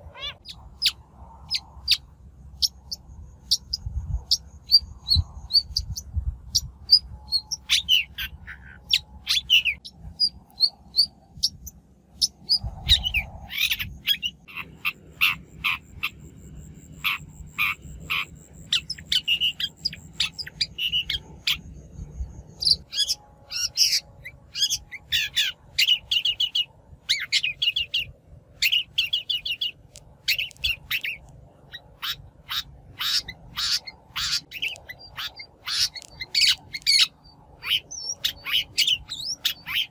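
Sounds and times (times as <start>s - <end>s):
bird chattering calls: 0.0s - 6.0s, 6.6s - 21.7s, 22.6s - 39.9s.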